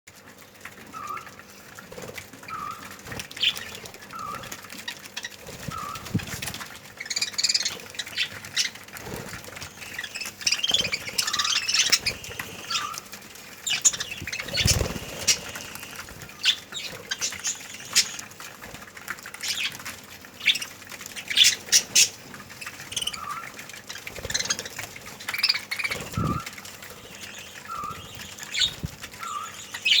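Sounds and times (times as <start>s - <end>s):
wings flapping: 0.5s - 30.0s
budgerigars chirping and chattering: 0.9s - 1.3s, 2.4s - 30.0s.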